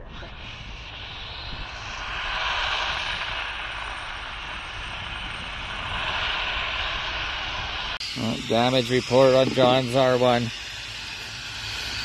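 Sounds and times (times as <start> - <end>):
distant engines rushing: 0.0 - 12.0.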